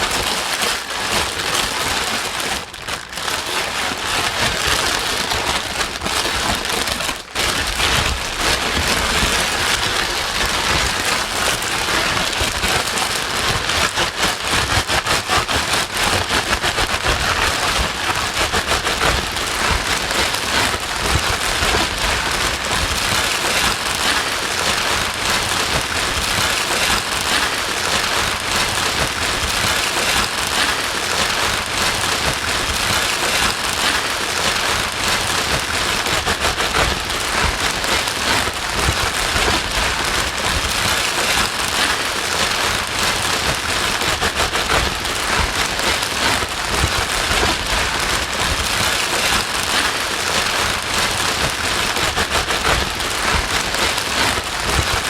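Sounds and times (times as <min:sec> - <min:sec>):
white noise hiss with crackle: 0:00.0 - 0:55.0.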